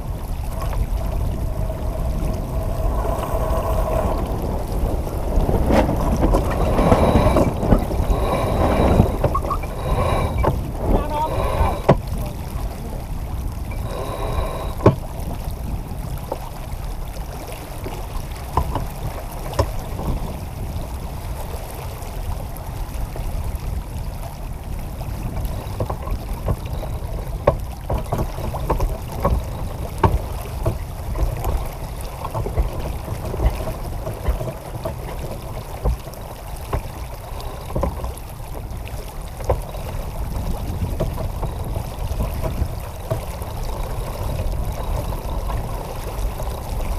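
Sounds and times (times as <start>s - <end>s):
water rushing along hull: 0.0s - 46.9s
wind noise on microphone: 0.0s - 46.9s.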